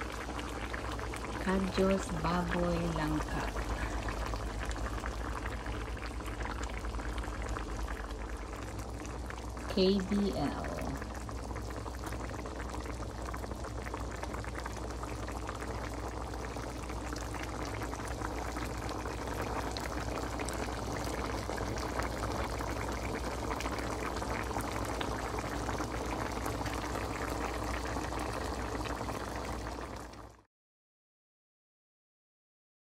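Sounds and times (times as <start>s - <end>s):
stew boiling with pops and crackles: 0.0s - 30.5s.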